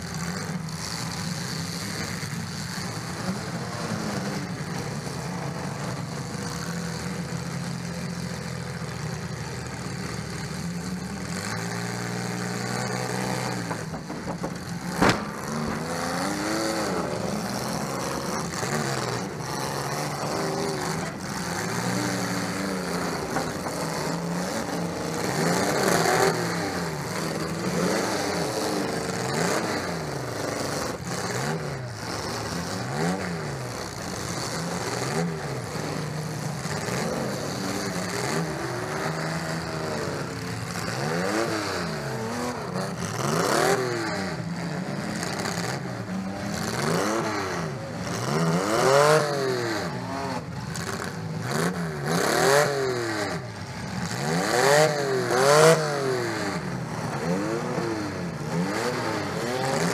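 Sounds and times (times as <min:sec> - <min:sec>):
car engine revving: 0:09.7 - 0:59.9.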